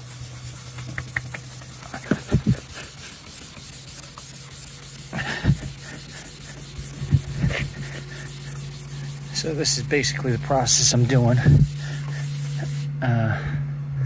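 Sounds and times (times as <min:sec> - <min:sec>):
scouring pad rubbing plastic: 0:00.0 - 0:12.9
steady low hum: 0:00.0 - 0:14.0.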